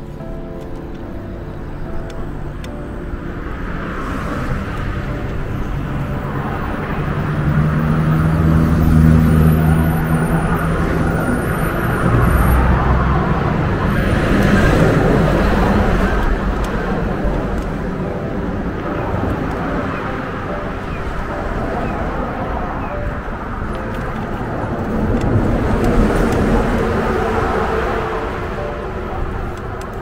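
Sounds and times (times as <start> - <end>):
low traffic rumble: 0.0 - 30.0
motor vehicles passing: 2.1 - 30.0.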